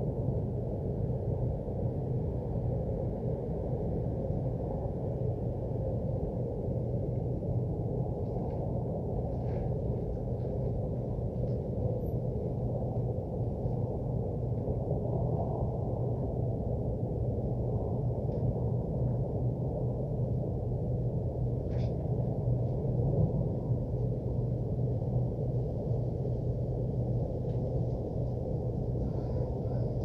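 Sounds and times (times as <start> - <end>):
low mechanical rumble with hum: 0.0 - 30.0.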